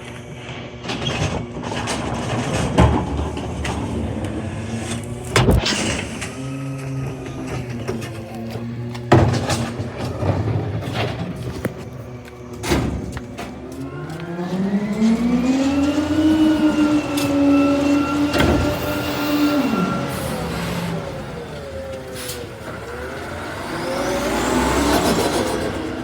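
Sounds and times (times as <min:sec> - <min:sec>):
garbage truck engine revving: 0:00.0 - 0:26.0.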